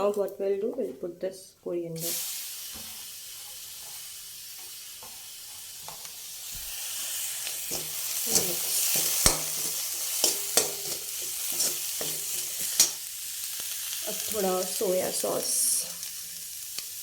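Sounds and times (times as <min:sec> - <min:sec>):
food sizzling in a hot pan: 0:02.0 - 0:17.0.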